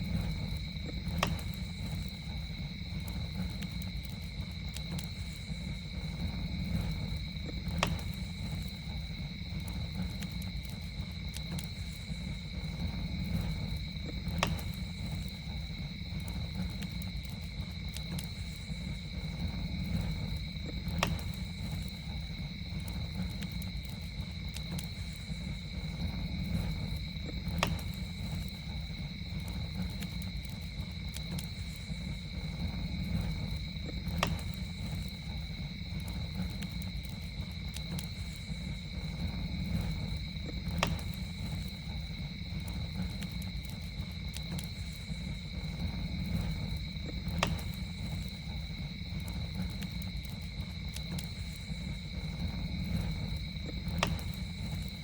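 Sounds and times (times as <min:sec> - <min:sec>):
campfire crackling: 0:00.0 - 0:55.0
crickets droning: 0:00.0 - 0:55.0
sharp pops from fire: 0:00.0 - 0:55.0.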